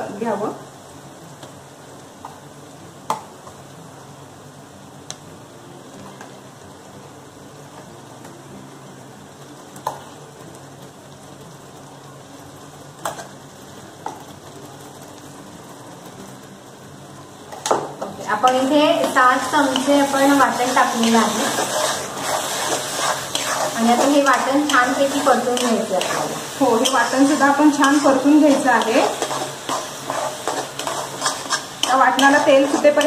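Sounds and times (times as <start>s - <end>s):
onion sizzling in hot oil: 0.0s - 33.0s.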